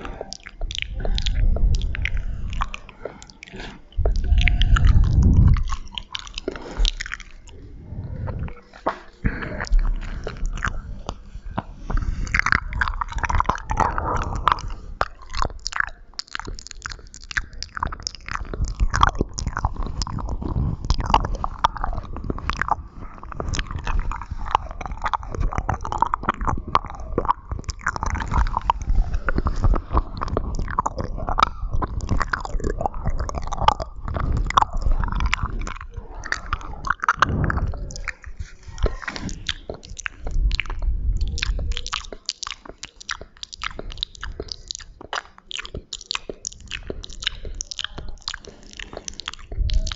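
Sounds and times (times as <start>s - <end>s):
mouth clicks and smacks: 0.0s - 49.9s.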